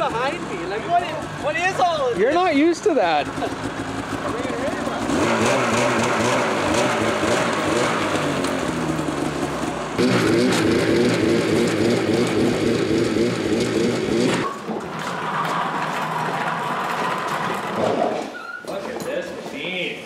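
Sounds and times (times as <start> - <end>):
snowmobile engine revving: 0.0 - 18.0
track spinning on snow: 0.0 - 18.3.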